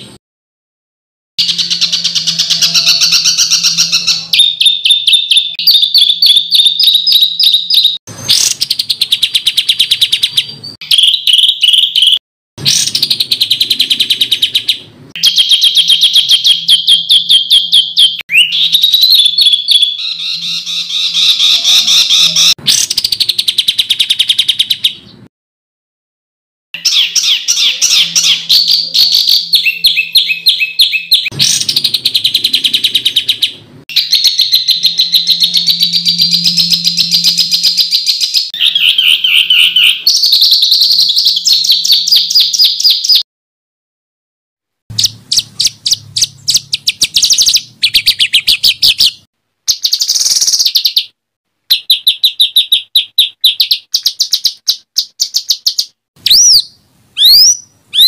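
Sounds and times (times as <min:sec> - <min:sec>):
songbird rapid repeated notes: 0:01.4 - 0:25.2, 0:26.8 - 0:43.2, 0:44.9 - 0:58.0.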